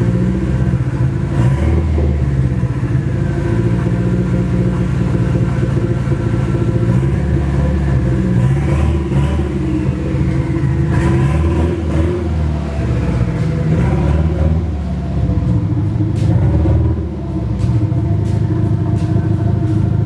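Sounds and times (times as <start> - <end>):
turbo engine running loud: 0.0 - 20.0.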